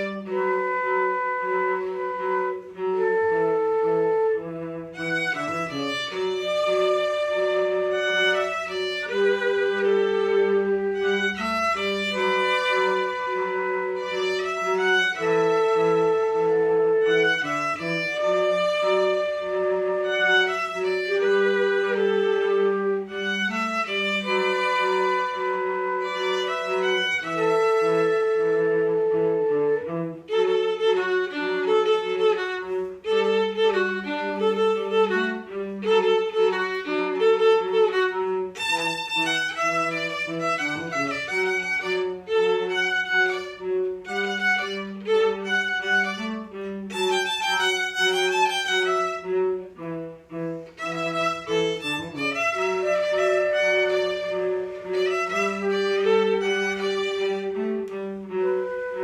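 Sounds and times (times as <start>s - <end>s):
cello holding low notes: 0.0s - 59.0s
violin melody: 0.0s - 59.0s.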